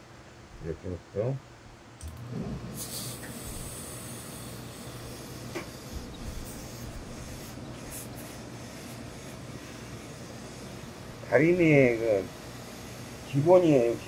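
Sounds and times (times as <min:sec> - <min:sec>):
steam iron hissing: 0:02.2 - 0:14.0.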